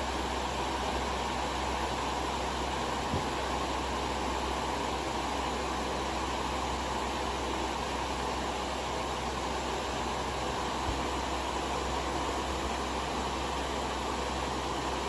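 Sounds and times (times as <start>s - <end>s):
table fan running: 0.0s - 15.0s.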